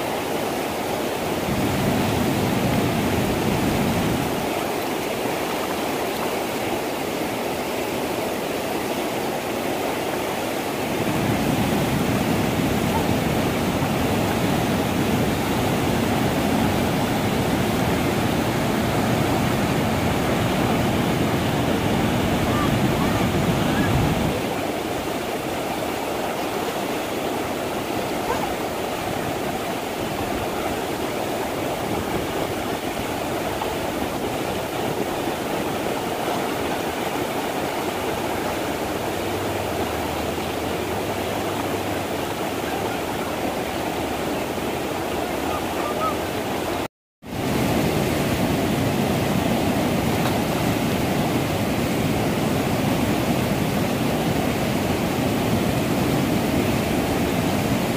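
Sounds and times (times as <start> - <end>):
river rapids rushing: 0.0 - 57.9.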